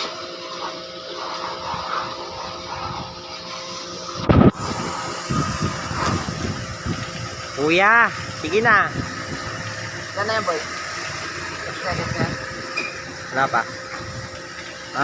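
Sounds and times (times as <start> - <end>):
pressure washer motor hum: 0.0 - 15.0.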